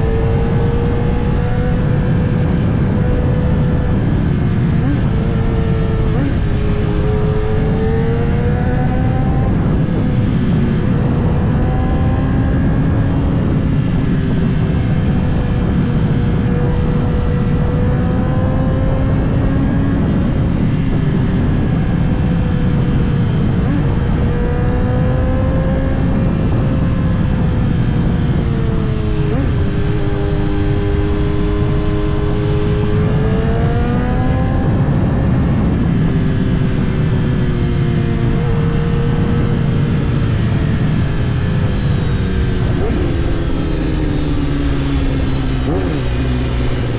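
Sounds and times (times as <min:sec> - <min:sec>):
motorcycle engine running: 0:00.0 - 0:46.9
wind noise: 0:00.0 - 0:46.9.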